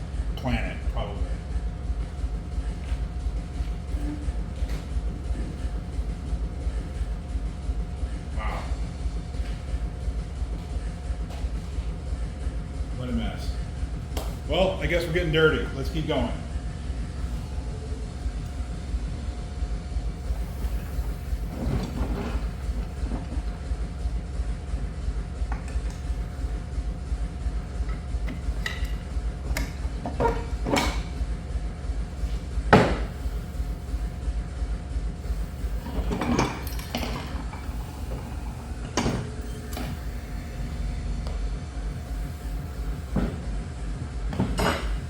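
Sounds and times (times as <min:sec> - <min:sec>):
faint steady hum: 0:00.0 - 0:45.0
pulsing low machine rumble: 0:00.0 - 0:45.0.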